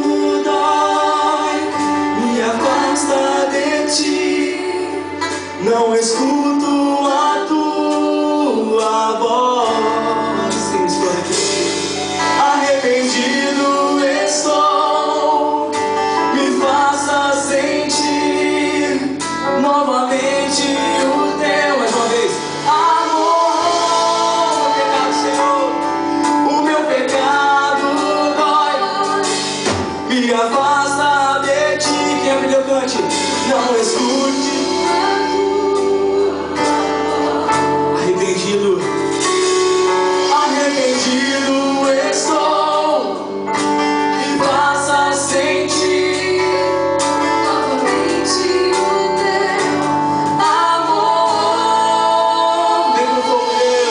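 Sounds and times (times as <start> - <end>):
gospel song: 0.0 - 53.9
instrumental accompaniment: 0.0 - 53.9
men and women singing together: 0.0 - 53.9.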